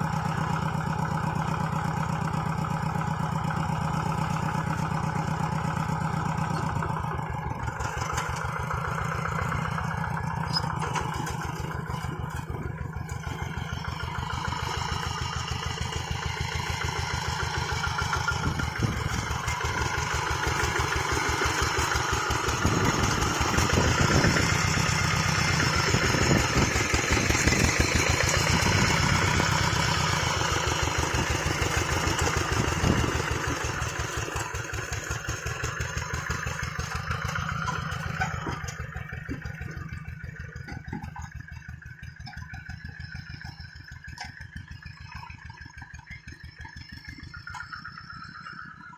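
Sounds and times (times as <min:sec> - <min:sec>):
diesel engine running: 0:00.0 - 0:48.9
engine clatter: 0:00.0 - 0:48.9.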